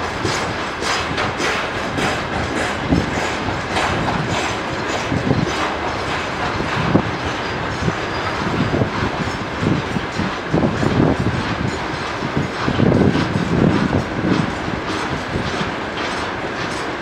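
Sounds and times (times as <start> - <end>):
freight train wheels rumbling on rail: 0.0 - 17.0
wheels clacking over rail joints: 0.0 - 17.0.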